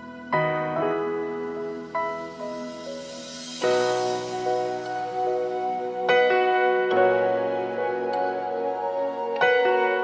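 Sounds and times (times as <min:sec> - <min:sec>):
soft instrumental piano music: 0:00.0 - 0:10.0.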